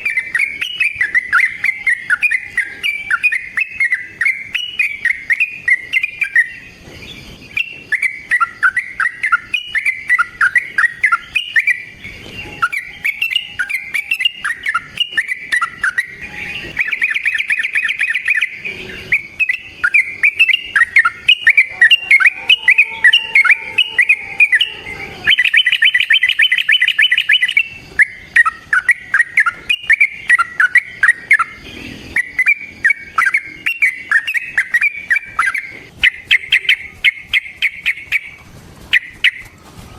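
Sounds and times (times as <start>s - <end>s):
bird singing bubbly chatter: 0.0s - 39.9s
bird trill: 0.0s - 39.9s.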